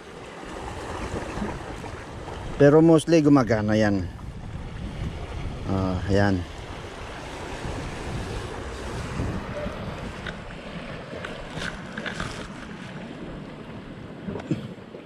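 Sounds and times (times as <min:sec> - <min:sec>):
waves washing against rocks: 0:00.0 - 0:03.3, 0:03.9 - 0:14.8
wind buffeting microphone: 0:00.0 - 0:14.7.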